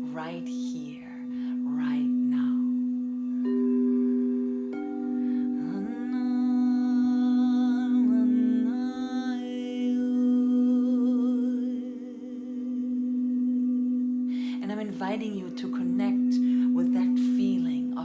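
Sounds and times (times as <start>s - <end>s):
crystal singing bowl ringing: 0.0s - 18.0s
person humming a melody: 0.0s - 18.0s.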